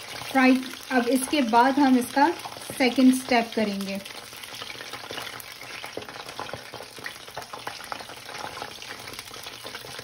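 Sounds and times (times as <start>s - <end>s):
chicken frying in oil: 0.0s - 10.0s
oil crackling and popping: 0.0s - 10.0s.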